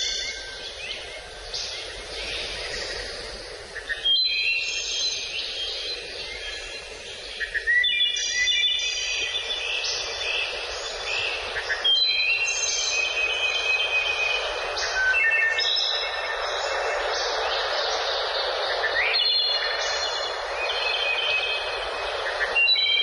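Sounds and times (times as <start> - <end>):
songbirds singing: 0.0 - 23.0
steady background hiss: 0.0 - 23.0.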